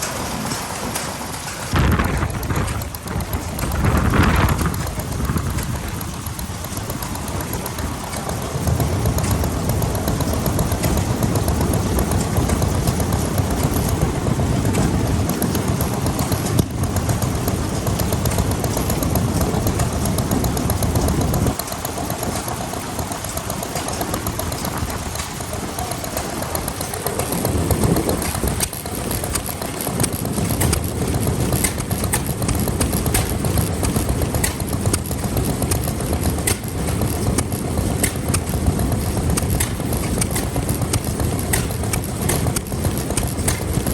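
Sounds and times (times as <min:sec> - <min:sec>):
stationary engines running: 0:00.0 - 0:43.9.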